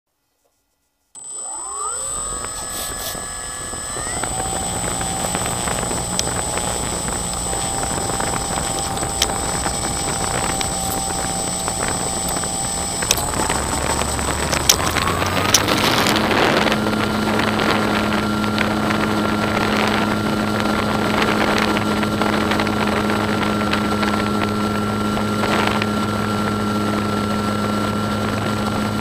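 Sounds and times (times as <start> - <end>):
model airplane motor whining: 1.2 - 29.0.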